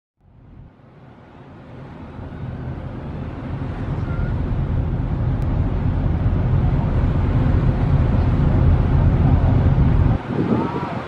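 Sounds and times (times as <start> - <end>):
boat engine rumble: 0.2 - 11.0
wind buffeting microphone: 1.8 - 11.0.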